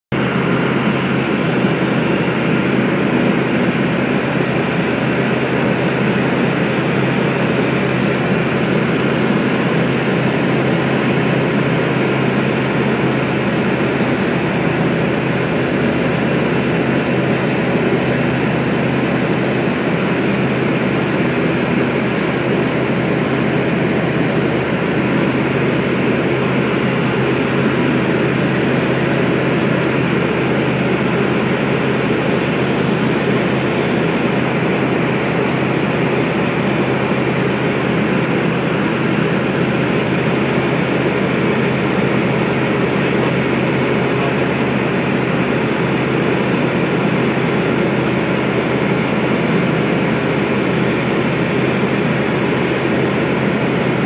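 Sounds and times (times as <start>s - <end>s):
propeller plane engine drone: 0.1s - 54.0s.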